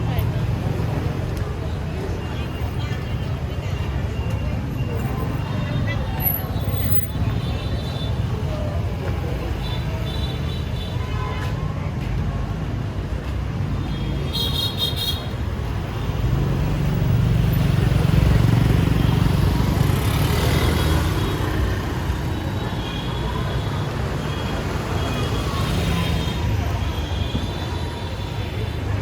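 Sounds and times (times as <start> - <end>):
motorbikes and cars passing: 0.0 - 10.0, 15.3 - 29.0.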